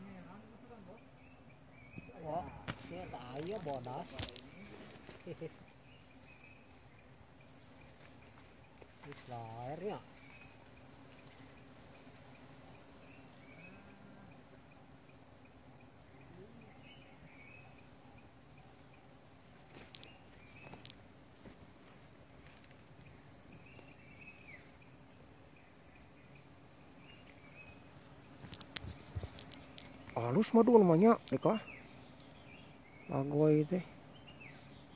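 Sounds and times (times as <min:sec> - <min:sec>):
high-pitched insect call: 0:00.0 - 0:34.9
shrill of forest insects: 0:00.0 - 0:34.9.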